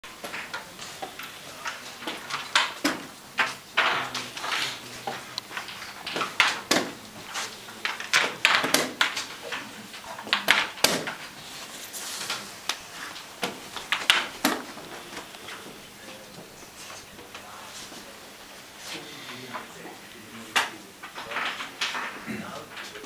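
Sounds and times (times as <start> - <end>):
wooden chess pieces set down: 0.2 - 23.0.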